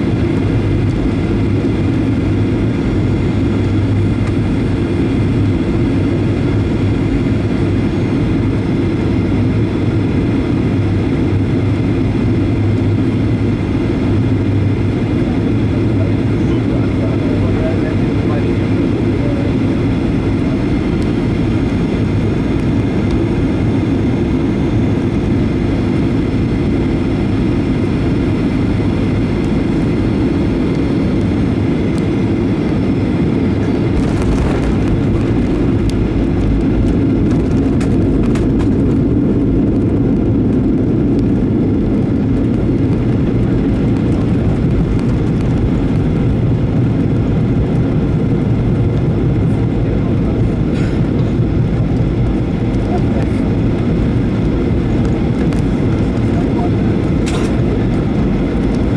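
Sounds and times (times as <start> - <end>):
aircraft engine and airflow noise: 0.0 - 58.9
wheels rumbling on runway: 0.0 - 58.9.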